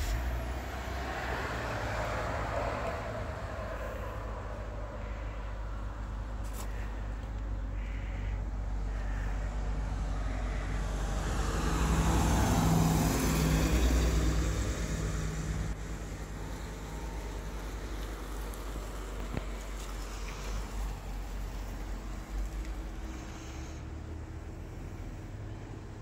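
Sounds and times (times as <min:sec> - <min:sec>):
road vehicle passing by: 0:00.0 - 0:26.0.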